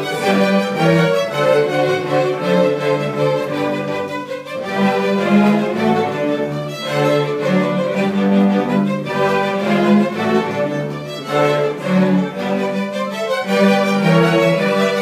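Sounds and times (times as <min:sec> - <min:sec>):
cello and bass line: 0:00.0 - 0:15.0
violins playing melody: 0:00.0 - 0:15.0.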